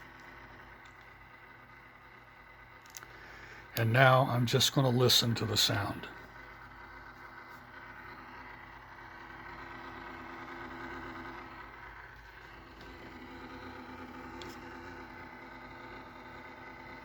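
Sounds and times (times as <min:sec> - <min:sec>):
laptop cooling fan humming: 0:00.0 - 0:17.0.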